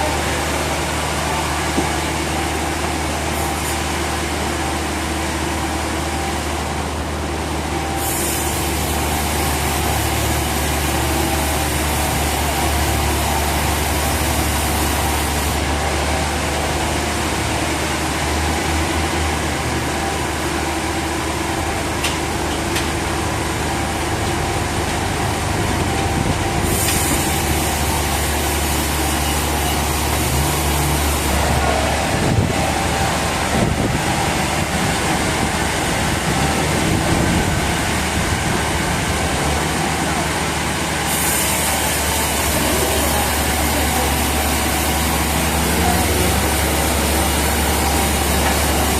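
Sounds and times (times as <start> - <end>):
sawmill machinery engine humming: 0.0 - 48.9.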